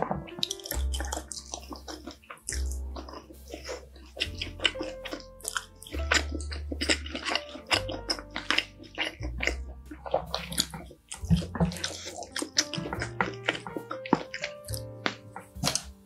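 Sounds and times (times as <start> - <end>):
soft background music: 0.0 - 16.0
wet chewing and mouth sounds: 0.0 - 16.0.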